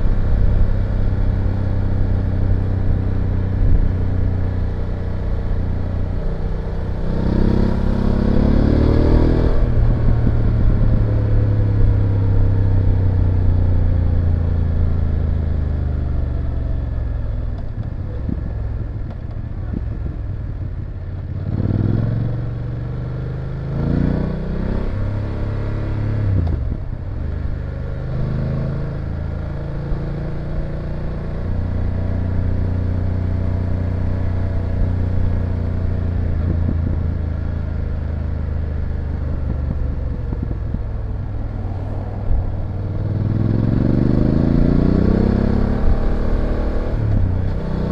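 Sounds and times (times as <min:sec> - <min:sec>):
motorcycle engine revving: 0:00.0 - 0:17.0, 0:17.7 - 0:47.9.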